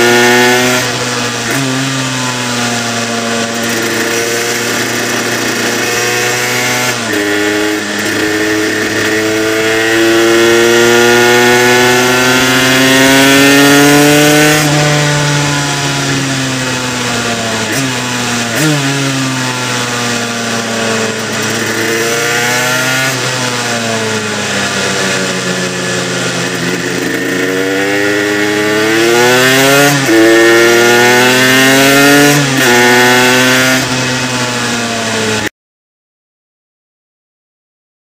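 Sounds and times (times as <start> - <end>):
motorcycle engine revving: 0.0 - 35.5.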